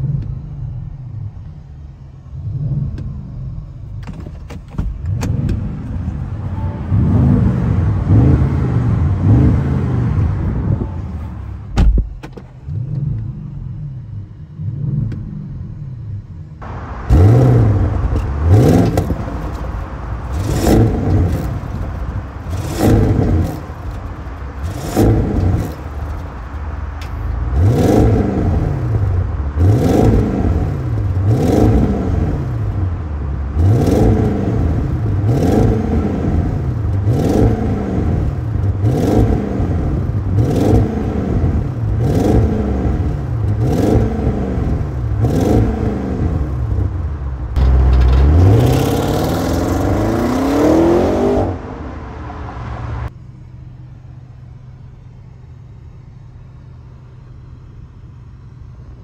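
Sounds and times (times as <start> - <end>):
car engine revving: 0.0 - 57.4.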